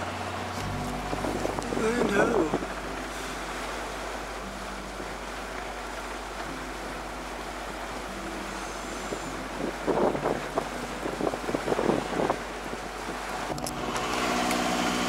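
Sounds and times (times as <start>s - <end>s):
water rushing along hull: 0.0s - 15.0s
wind buffeting microphone: 0.3s - 15.0s.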